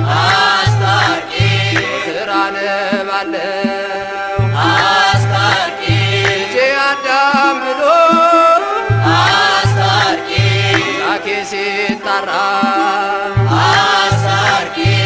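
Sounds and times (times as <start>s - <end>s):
gliding hymn melody: 0.0s - 15.0s.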